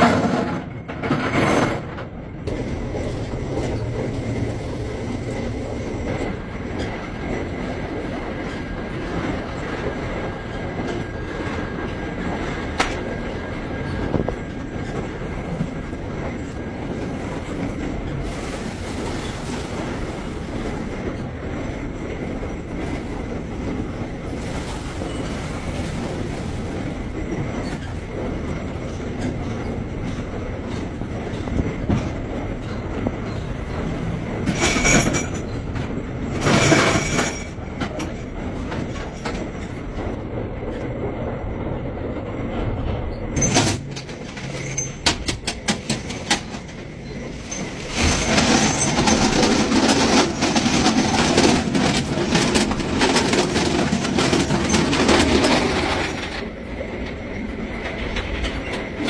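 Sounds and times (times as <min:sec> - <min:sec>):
machinery rumbling: 0:02.3 - 0:57.1.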